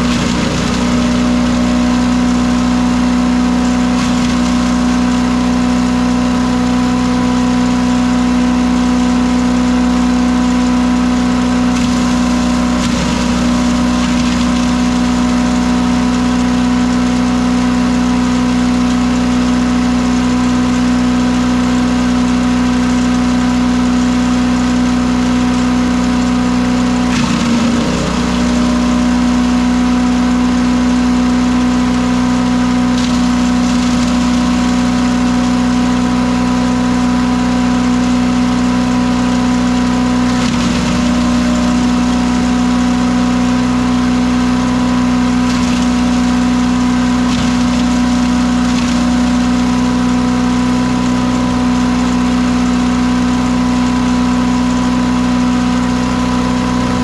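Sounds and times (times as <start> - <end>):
shredder shredding cardboard: 0.0 - 57.0
small engine running: 0.0 - 57.0.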